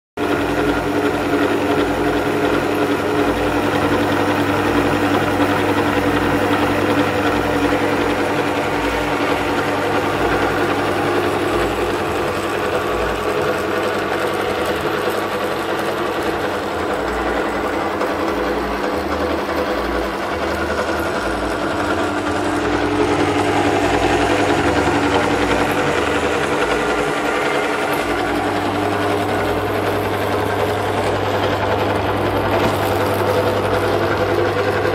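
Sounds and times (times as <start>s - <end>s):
drill press motor hum: 0.2s - 34.9s.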